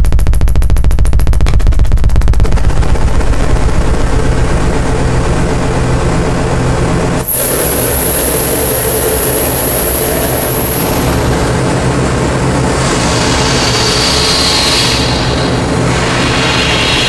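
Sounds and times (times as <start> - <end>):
distorted electronic noise: 0.0 - 17.0
piercing high whine: 0.0 - 17.0.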